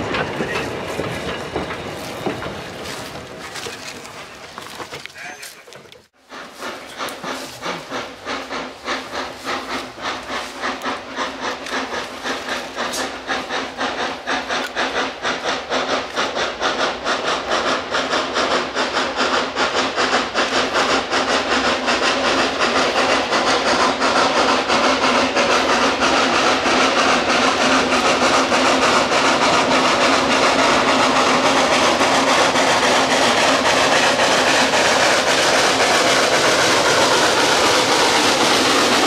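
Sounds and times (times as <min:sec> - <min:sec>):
steam locomotive exhaust chuffs: 0:00.0 - 0:39.0
steady steam hiss: 0:06.2 - 0:39.0.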